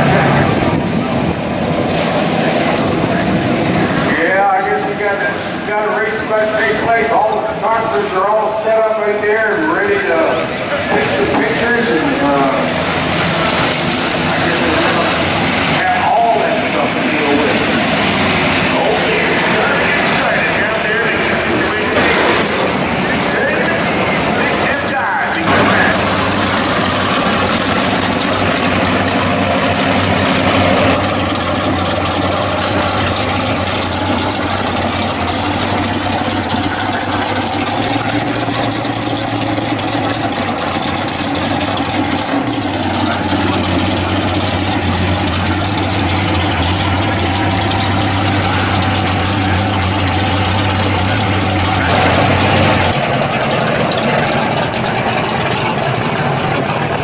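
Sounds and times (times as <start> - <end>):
race car engines idling: 0.0 - 57.0.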